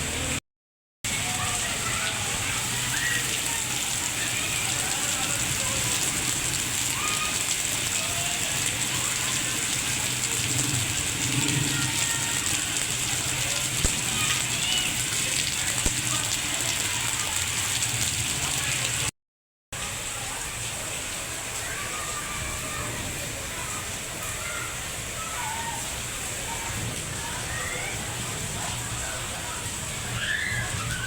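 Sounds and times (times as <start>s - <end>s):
steady rain falling: 1.1s - 19.1s, 19.8s - 31.0s.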